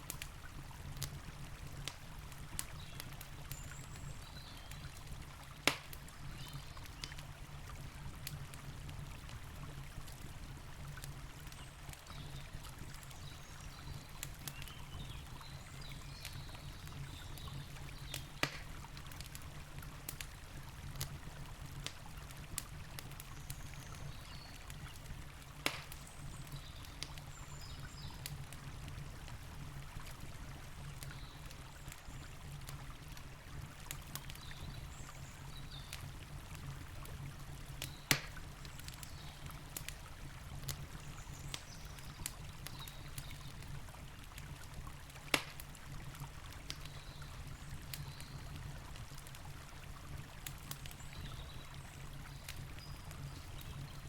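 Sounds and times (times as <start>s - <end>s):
campfire pops: 0.0s - 7.4s, 8.0s - 30.3s, 33.8s - 54.0s
campfire crackling: 0.0s - 54.0s.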